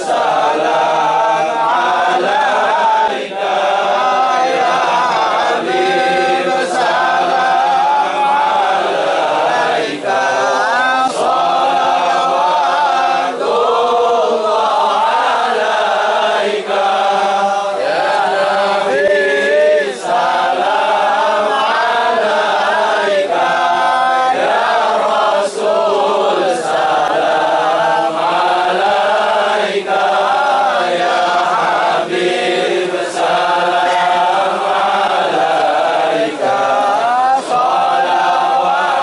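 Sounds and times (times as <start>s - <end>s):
crowd of men chanting: 0.0s - 39.0s.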